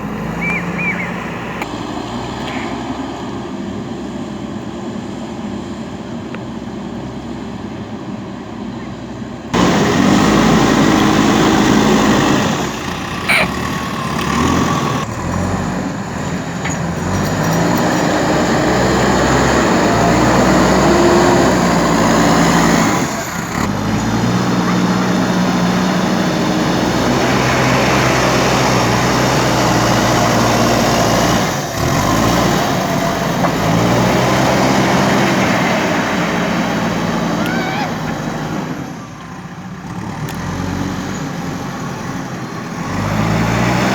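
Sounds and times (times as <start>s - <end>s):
diesel engine under load: 0.0s - 43.9s.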